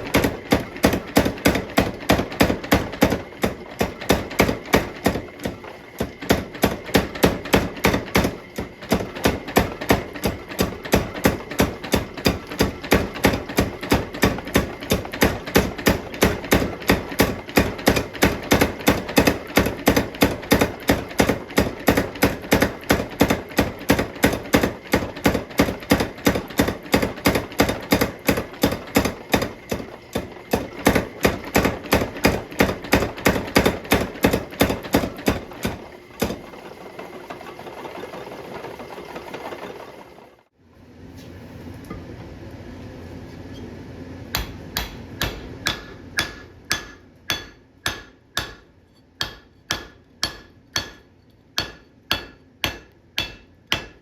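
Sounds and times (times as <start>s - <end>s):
hammer striking anvil: 0.0s - 36.4s, 44.3s - 54.0s.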